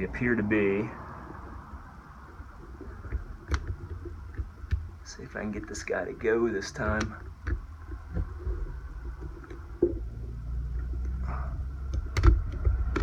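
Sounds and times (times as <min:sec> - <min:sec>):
steady low rumble: 0:00.0 - 0:13.0
plastic parts clicking: 0:02.3 - 0:13.0.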